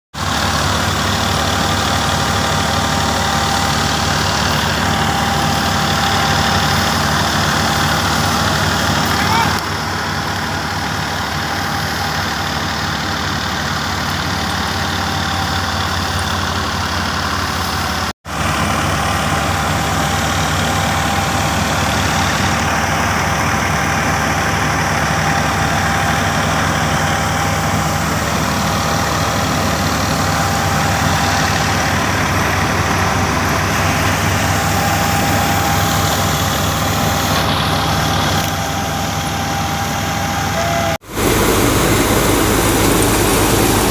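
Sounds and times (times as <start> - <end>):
tractor diesel engine running: 0.1 - 43.9.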